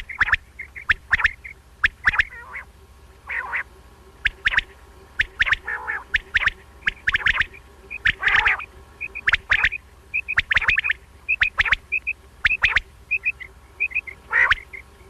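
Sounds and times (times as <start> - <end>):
quail calling: 0.0 - 15.0.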